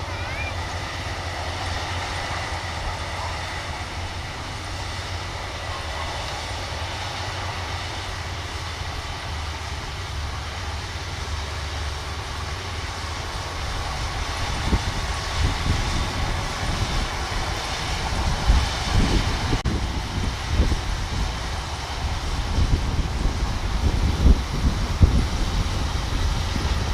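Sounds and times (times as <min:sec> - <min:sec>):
combine harvester running: 0:00.0 - 0:26.9.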